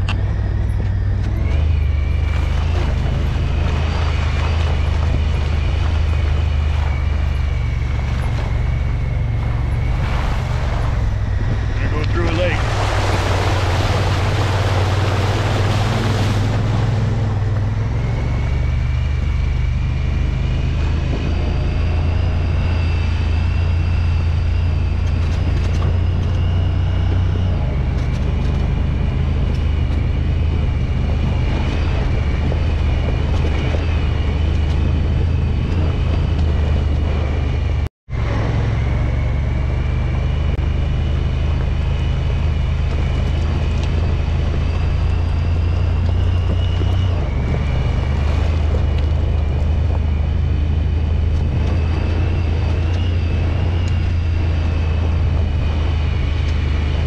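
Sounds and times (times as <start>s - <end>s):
rushing noise: 0.0s - 57.0s
thin high whine: 0.0s - 57.0s
utility vehicle engine droning: 0.0s - 57.0s.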